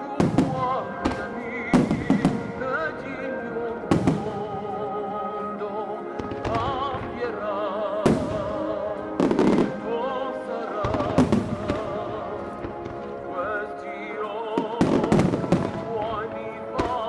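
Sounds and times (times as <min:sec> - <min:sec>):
fireworks bursting: 0:00.0 - 0:17.0
music with singer: 0:00.0 - 0:17.0.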